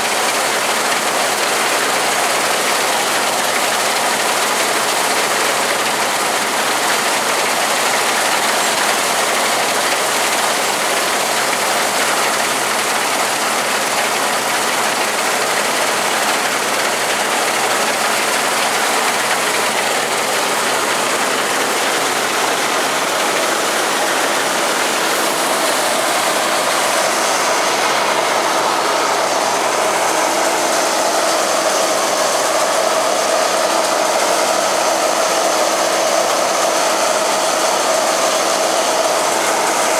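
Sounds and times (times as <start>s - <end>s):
combine harvester mechanical din: 0.1s - 39.9s.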